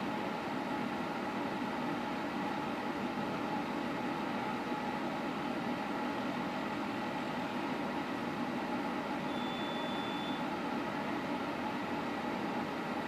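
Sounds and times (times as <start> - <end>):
space heater fan whir and hum: 0.0 - 13.0.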